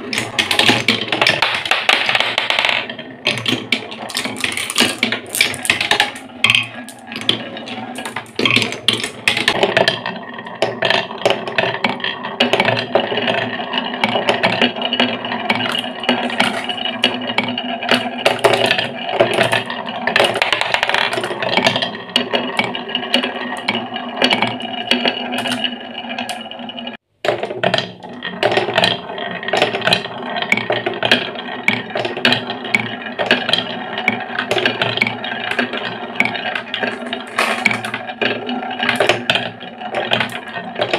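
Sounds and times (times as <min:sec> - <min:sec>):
marbles clicking against wood: 0:00.0 - 0:26.6, 0:27.2 - 0:40.9
marbles rolling on wooden tracks: 0:00.0 - 0:40.9.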